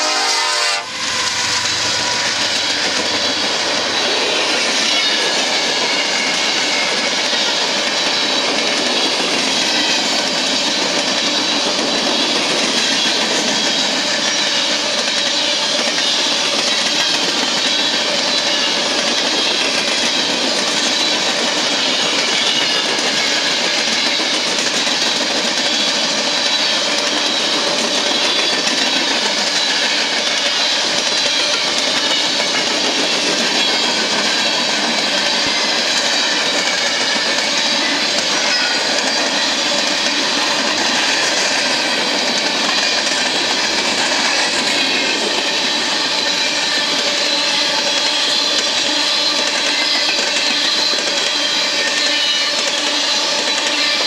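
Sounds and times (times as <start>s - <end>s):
train clickety-clack: 0.0s - 54.0s
train wheels rushing on rails: 0.0s - 54.0s.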